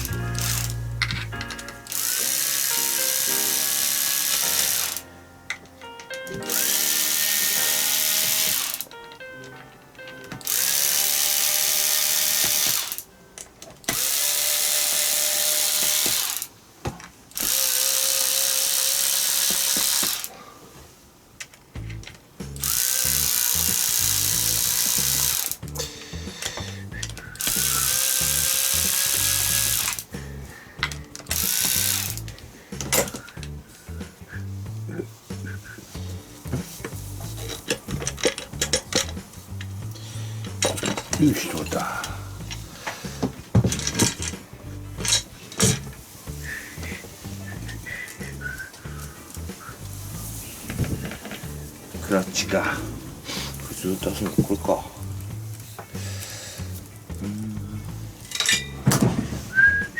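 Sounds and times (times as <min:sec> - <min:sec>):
background music with beat: 0:00.0 - 0:10.9, 0:21.8 - 0:59.9.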